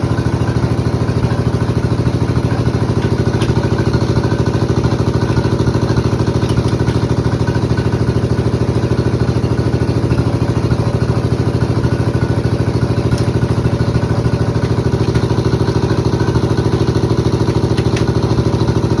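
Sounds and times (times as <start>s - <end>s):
engine idling with even pulse: 0.0s - 19.0s.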